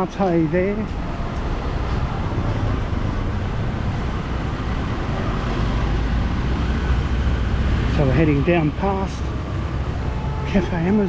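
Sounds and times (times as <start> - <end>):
street traffic passing: 0.0 - 11.0.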